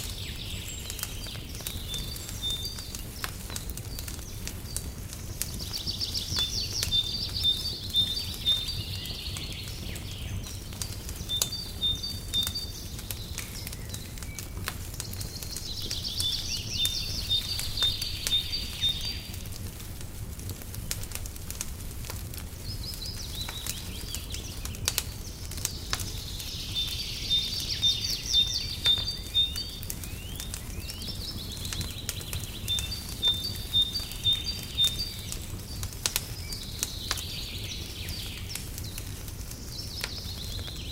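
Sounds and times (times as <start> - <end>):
songbird singing: 0.0 - 21.6, 22.4 - 40.9
fireplace crackling and popping: 0.0 - 40.9.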